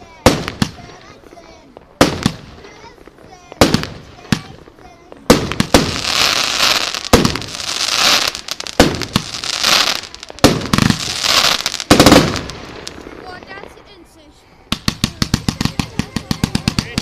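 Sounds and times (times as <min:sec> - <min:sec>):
firework reports: 0:00.0 - 0:17.0
hissing crackle of bursts: 0:00.0 - 0:17.0.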